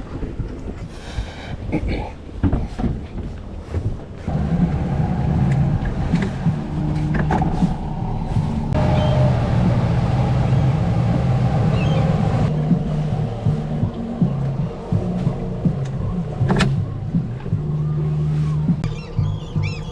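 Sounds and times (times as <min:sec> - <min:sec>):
boat engine humming: 0:02.2 - 0:19.9.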